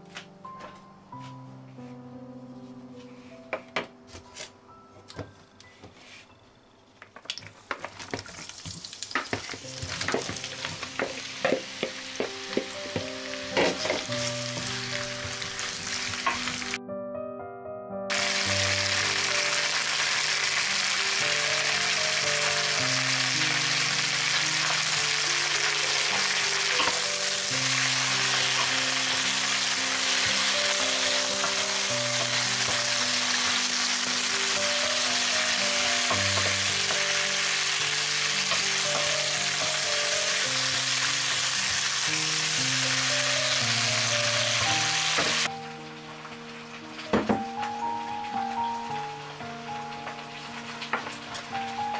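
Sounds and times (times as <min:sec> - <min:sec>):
background music with held notes: 0:00.0 - 0:07.2, 0:09.3 - 0:51.9
zucchini sizzling in hot oil: 0:08.2 - 0:16.8, 0:18.1 - 0:51.9.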